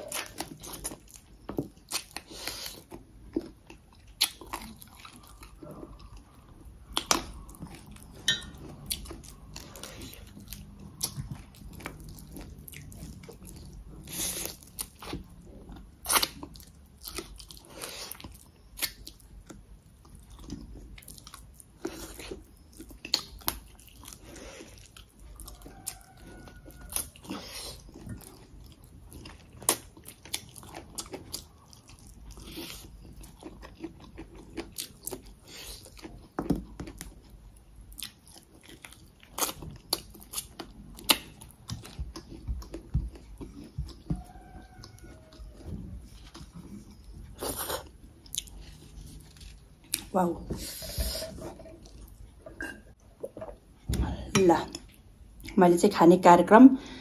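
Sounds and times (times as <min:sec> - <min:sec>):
person chewing food: 0:00.0 - 0:55.6.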